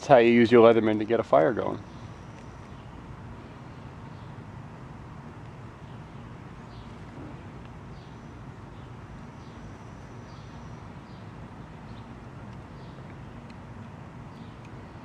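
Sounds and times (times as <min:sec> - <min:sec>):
low outdoor background noise: 0:00.0 - 0:15.0
bird chirping: 0:00.9 - 0:04.4, 0:05.7 - 0:13.6, 0:14.2 - 0:15.0.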